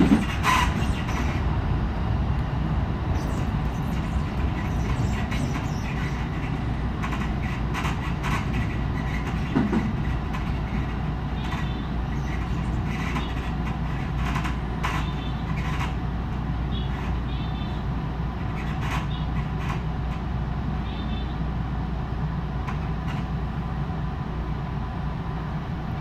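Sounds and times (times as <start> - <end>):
wheels clacking over rail joints: 0.0 - 21.3, 22.5 - 23.7
train running rumble: 0.0 - 26.0.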